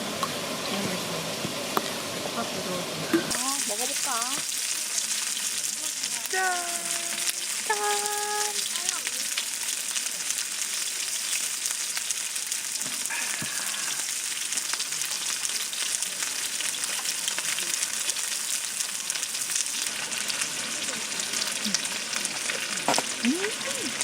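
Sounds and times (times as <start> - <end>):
beef sizzling: 0.0 - 24.0.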